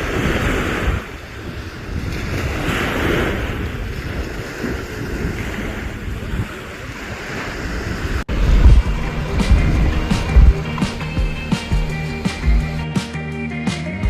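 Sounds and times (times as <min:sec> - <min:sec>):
wind buffeting microphone: 0:00.0 - 0:12.9
ocean waves breaking: 0:00.0 - 0:13.2.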